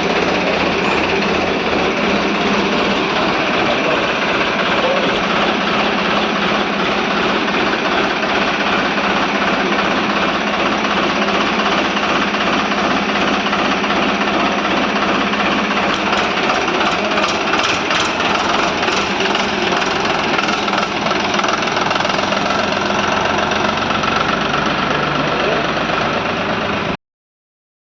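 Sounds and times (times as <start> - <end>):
tractor diesel engine clattering: 0.0 - 26.8.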